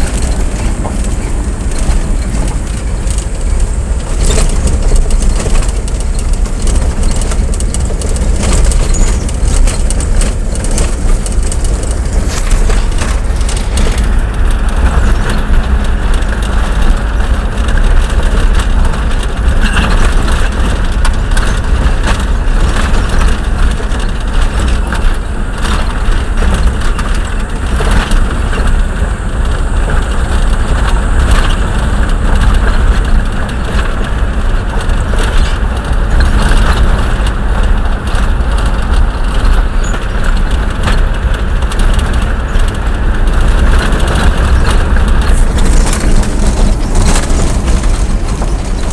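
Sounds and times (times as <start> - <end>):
motor vehicle rumble: 0.0 - 48.9
rough crackling noise: 0.0 - 48.9.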